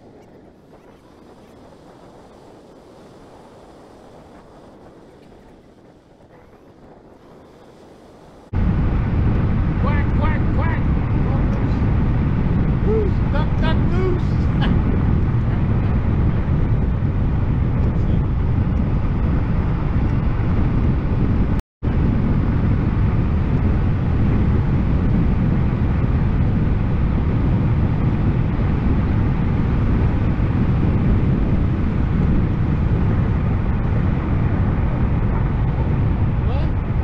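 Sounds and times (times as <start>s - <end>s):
wind and road noise: 0.0s - 37.0s.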